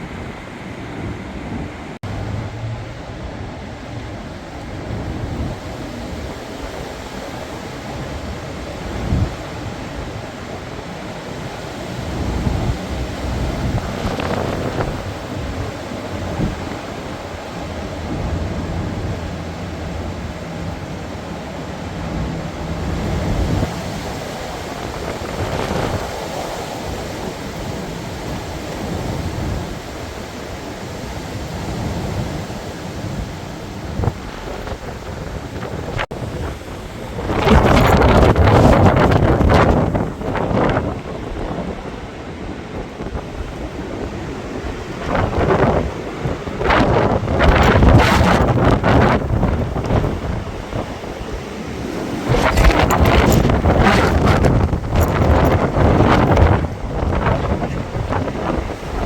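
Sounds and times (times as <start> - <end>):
strong wind rushing: 0.0 - 59.0
wind buffeting microphone: 0.0 - 59.0.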